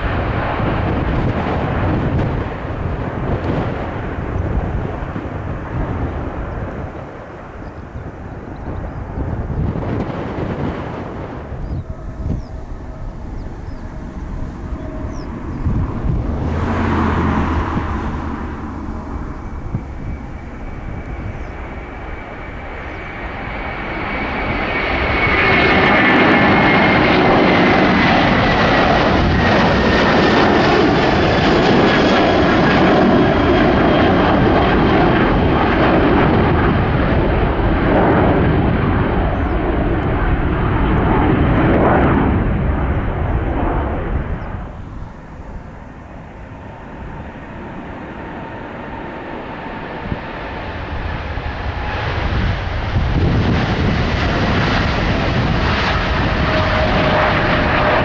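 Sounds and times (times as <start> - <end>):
jet airliner taking off: 0.0 - 58.0.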